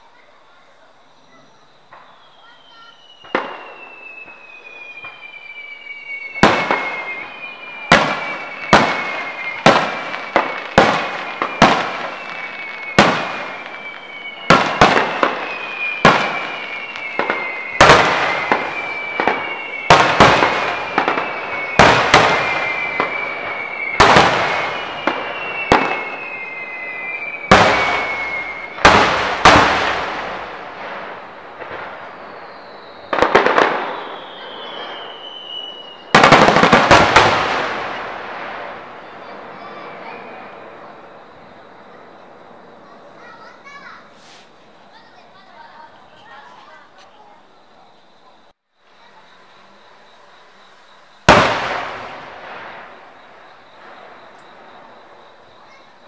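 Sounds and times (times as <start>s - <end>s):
firework whistles falling in pitch: 1.0s - 47.4s, 48.9s - 56.0s.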